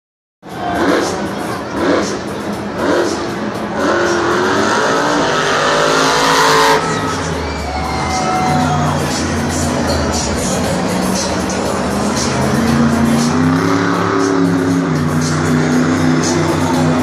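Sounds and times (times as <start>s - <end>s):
truck engine revving: 0.4s - 17.0s.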